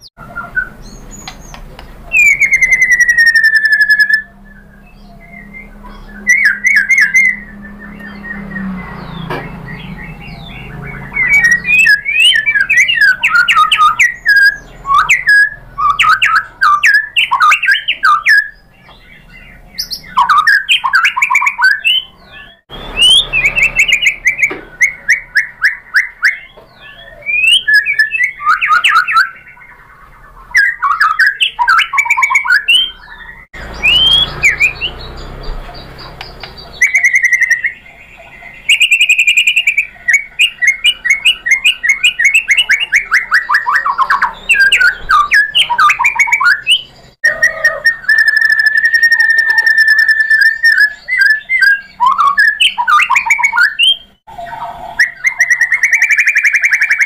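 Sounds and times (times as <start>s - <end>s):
bird singing whistled phrases: 0.0s - 57.0s.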